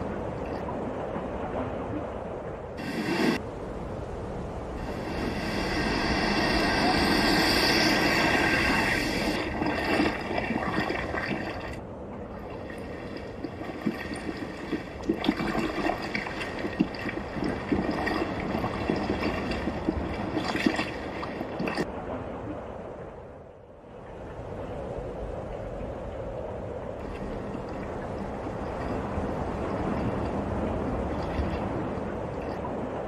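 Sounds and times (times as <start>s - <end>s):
stream gurgling and trickling: 0.0s - 3.5s, 4.7s - 22.7s, 26.7s - 33.0s.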